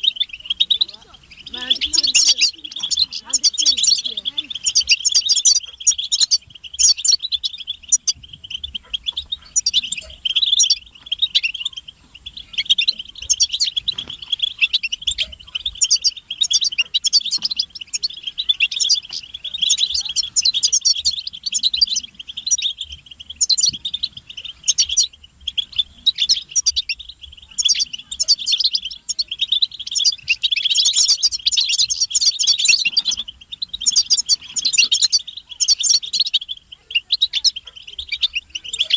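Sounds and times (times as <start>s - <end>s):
goldfinches chattering and twittering: 0.0s - 38.9s.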